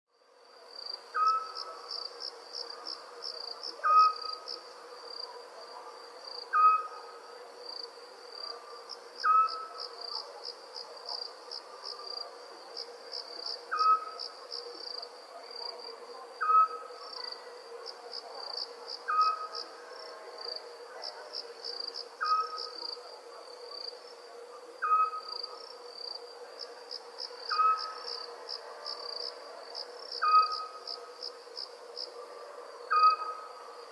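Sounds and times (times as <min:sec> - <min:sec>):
crickets chirping: 0:00.2 - 0:33.9.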